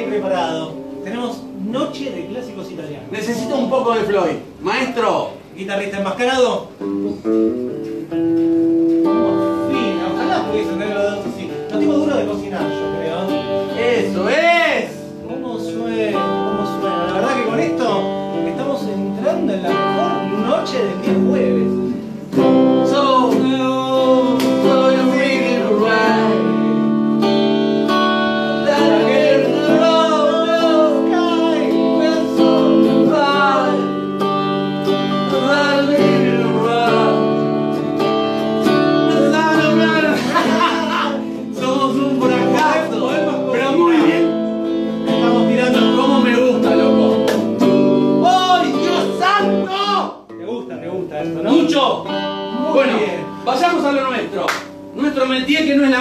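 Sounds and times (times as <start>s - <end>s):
electric guitar lead melody: 0.0s - 4.6s, 6.7s - 55.0s.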